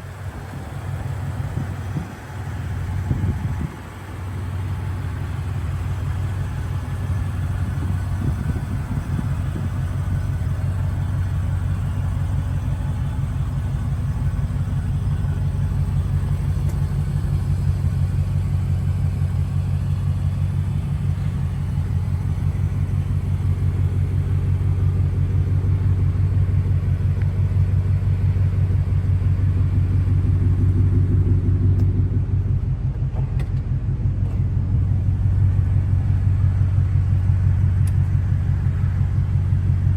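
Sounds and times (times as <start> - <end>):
engine deep drone: 0.0 - 39.9.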